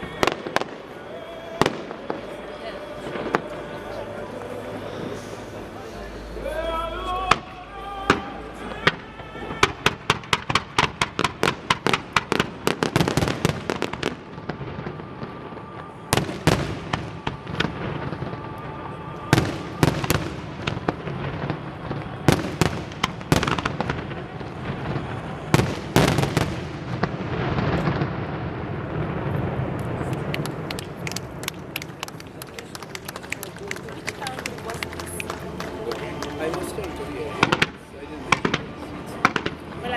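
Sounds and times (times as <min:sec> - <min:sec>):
fireworks bangs: 0:00.0 - 0:05.9, 0:07.1 - 0:39.9
fireworks crackling: 0:00.0 - 0:39.9.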